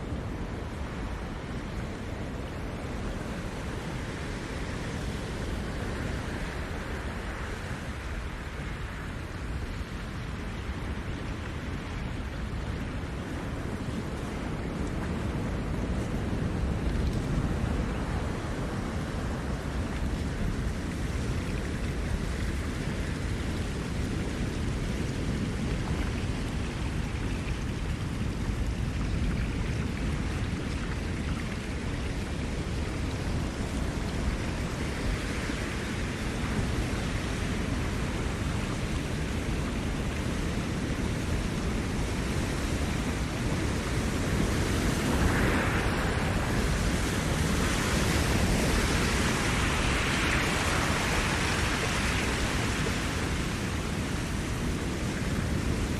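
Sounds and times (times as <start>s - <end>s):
ocean waves washing ashore: 0.0s - 55.9s.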